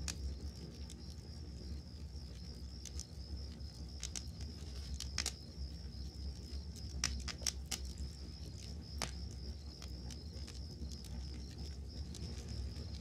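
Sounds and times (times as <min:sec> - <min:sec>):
campfire crackling and popping: 0:00.0 - 0:13.0
crickets chirring: 0:00.0 - 0:13.0.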